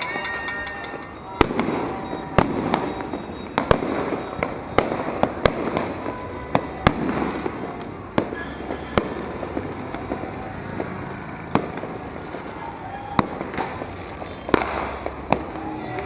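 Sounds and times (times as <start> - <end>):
crackle of distant fireworks: 0.0 - 16.0
firecracker bangs and pops: 0.0 - 16.0.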